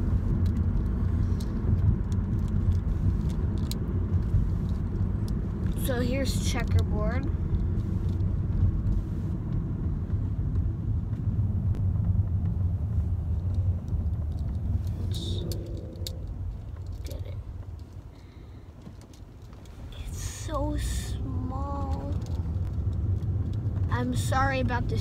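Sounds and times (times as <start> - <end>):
road rumble inside car: 0.0 - 25.0.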